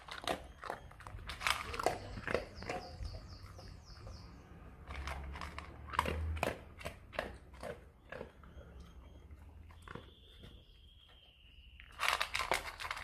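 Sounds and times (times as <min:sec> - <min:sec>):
dog crunching dry kibble: 0:00.0 - 0:10.6, 0:11.8 - 0:13.0.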